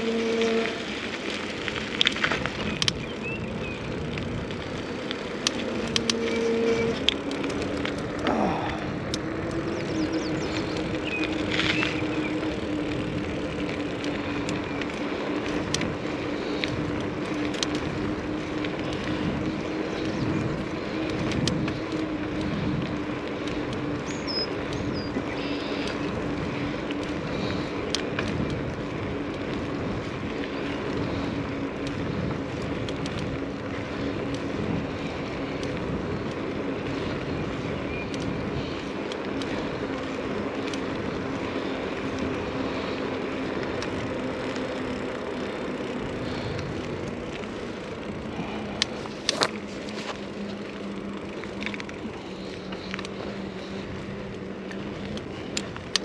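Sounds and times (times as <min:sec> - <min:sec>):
bike clicks and rattles: 0:00.0 - 0:56.0
rushing noise of bike ride: 0:00.0 - 0:56.0.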